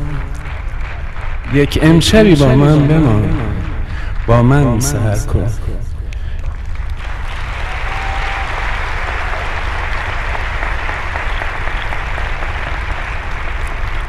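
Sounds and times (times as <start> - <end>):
audience applauding: 0.0 - 5.0, 6.2 - 14.0.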